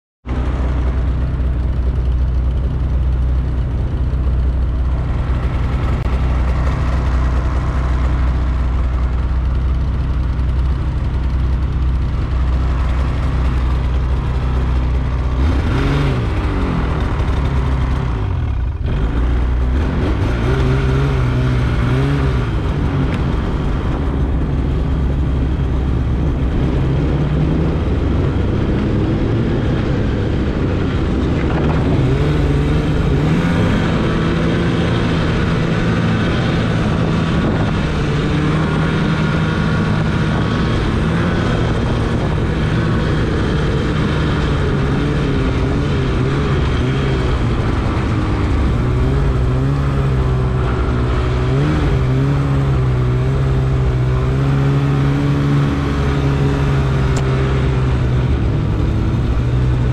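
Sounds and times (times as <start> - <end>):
vehicle engine revving: 0.2 - 59.9.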